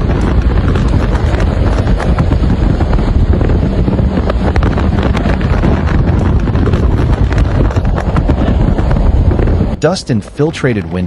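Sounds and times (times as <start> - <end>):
wind blasting microphone: 0.0 - 11.0.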